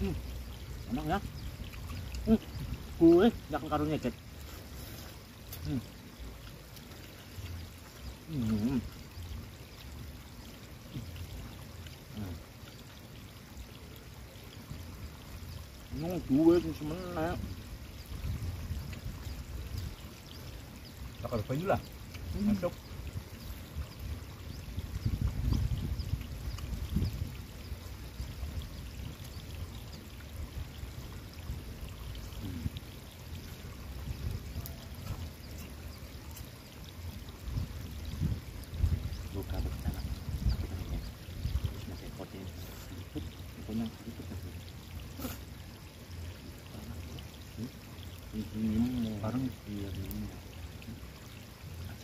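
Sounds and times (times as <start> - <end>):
running water: 0.0 - 52.0.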